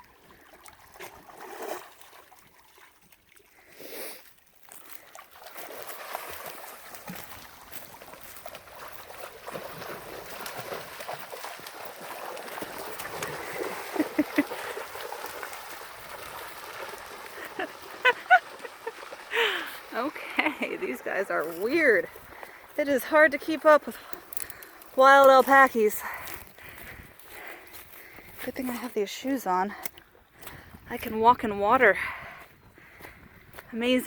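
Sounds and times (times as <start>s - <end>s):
creek water splashing and trickling: 0.0s - 34.0s.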